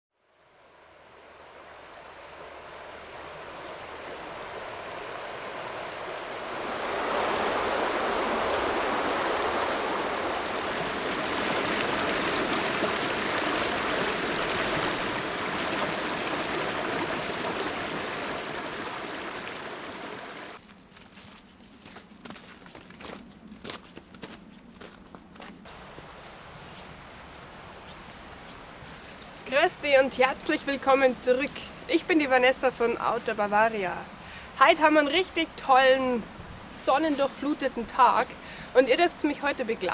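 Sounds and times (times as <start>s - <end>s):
river water rushing: 0.3s - 20.6s, 25.7s - 39.9s.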